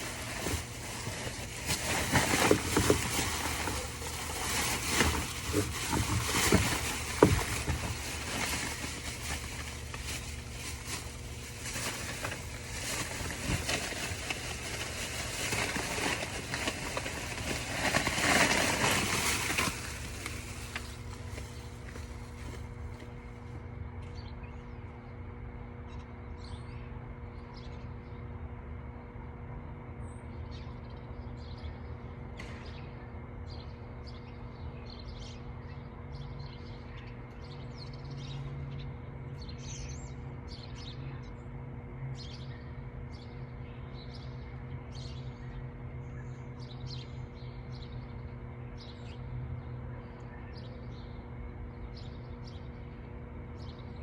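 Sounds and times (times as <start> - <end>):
birds chirping: 0.0 - 23.4, 30.0 - 54.0
steady low hum: 0.0 - 54.0.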